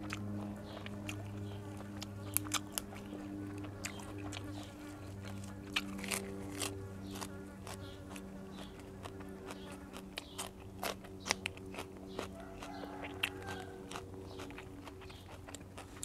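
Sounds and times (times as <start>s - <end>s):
chewing crisp leaves: 0.0s - 16.0s.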